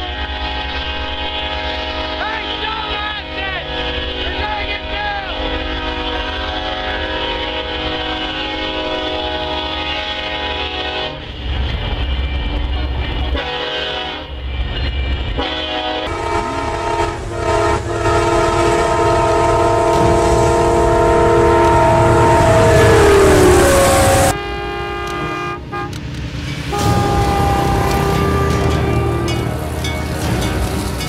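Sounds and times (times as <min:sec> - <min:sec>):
train air horn blasts: 0:00.0 - 0:11.3, 0:13.3 - 0:26.0, 0:26.7 - 0:31.0
locomotives rumbling past: 0:00.0 - 0:31.0.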